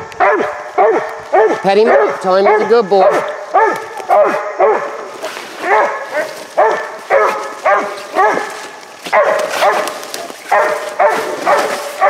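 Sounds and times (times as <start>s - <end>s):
dog barking: 0.2s - 12.0s.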